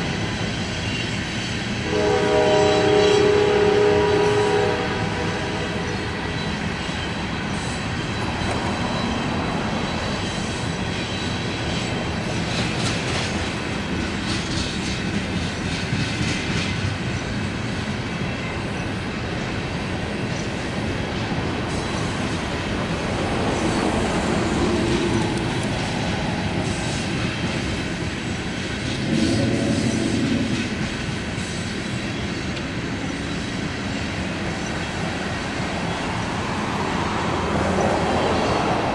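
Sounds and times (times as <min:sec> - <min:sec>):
train wheels rumbling on rail: 0:00.0 - 0:38.9
train cars clacking and knocking: 0:05.5 - 0:38.9.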